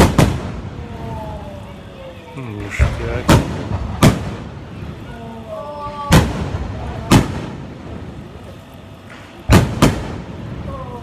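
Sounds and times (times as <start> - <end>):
fireworks shells booming: 0.0 - 1.4, 2.6 - 11.0.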